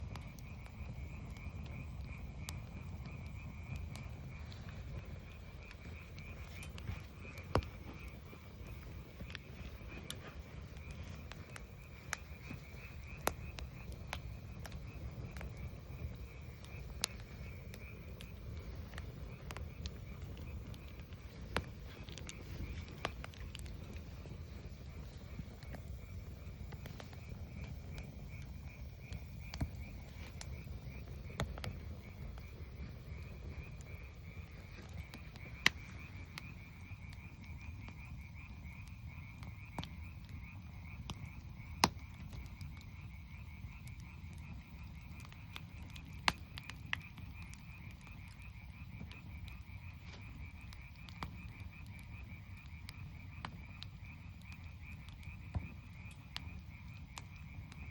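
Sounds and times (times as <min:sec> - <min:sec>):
campfire wood cracking and popping: 0:00.0 - 0:57.9
frogs trilling: 0:00.0 - 0:57.9.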